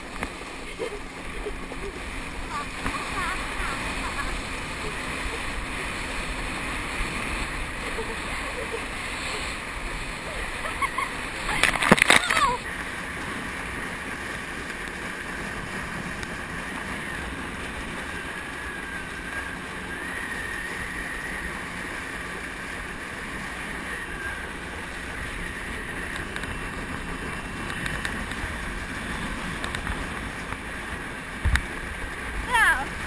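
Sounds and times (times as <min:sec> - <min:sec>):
motorboat engine: 0:00.0 - 0:33.0
rushing water: 0:00.0 - 0:33.0
wind: 0:00.0 - 0:33.0.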